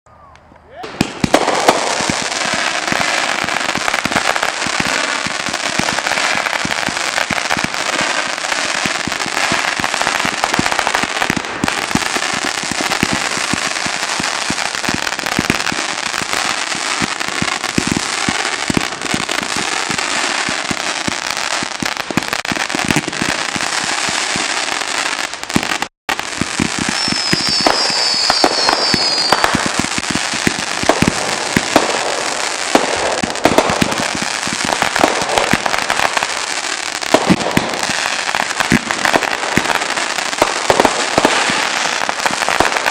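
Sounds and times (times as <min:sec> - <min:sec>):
fireworks barrage crackling: 0:00.2 - 0:42.9.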